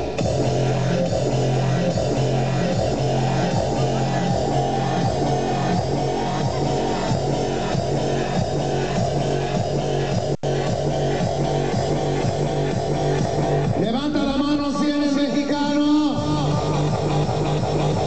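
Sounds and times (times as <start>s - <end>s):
loud dance music with guitar: 0.0s - 18.0s
repeating bass line: 0.0s - 18.0s.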